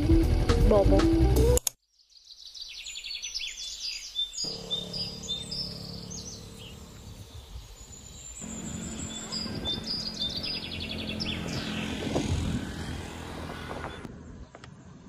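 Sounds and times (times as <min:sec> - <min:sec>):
birds chirping: 0:01.9 - 0:15.0.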